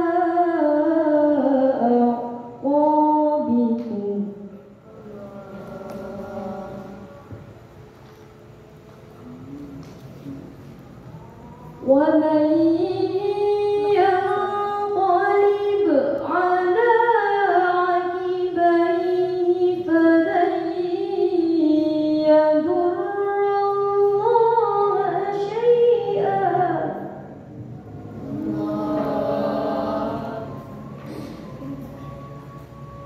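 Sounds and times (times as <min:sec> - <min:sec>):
girl reciting melodically: 0:00.0 - 0:07.9, 0:09.4 - 0:32.8.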